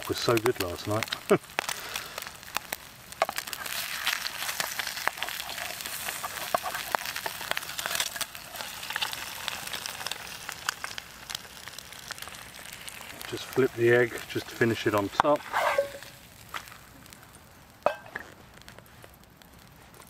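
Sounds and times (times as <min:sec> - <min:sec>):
oil popping and spitting: 0:00.0 - 0:17.2
egg sizzling in frying pan: 0:00.0 - 0:19.9.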